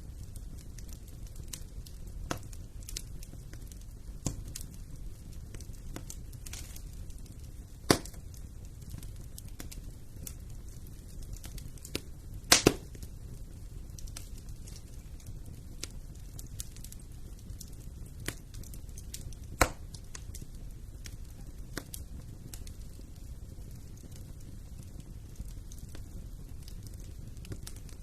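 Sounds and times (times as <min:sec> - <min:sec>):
sharp pops of fire: 0:00.0 - 0:28.0
wood fire crackling: 0:00.0 - 0:28.0.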